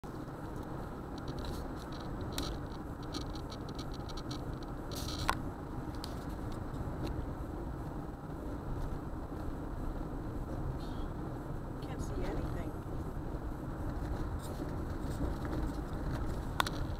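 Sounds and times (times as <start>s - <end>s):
road and wind noise: 0.0s - 16.9s.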